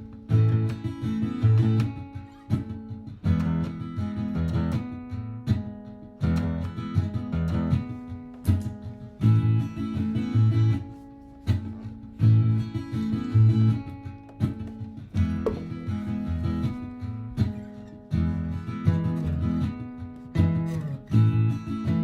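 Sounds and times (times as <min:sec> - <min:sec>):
acoustic guitar strummed chords: 0:00.0 - 0:22.0.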